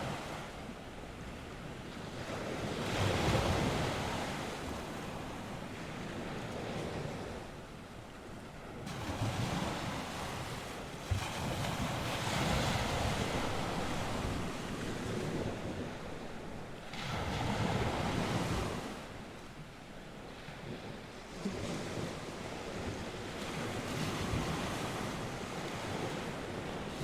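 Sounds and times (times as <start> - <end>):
wind on microphone: 0.0 - 19.4, 20.2 - 27.0
waves breaking on shore: 0.0 - 27.0.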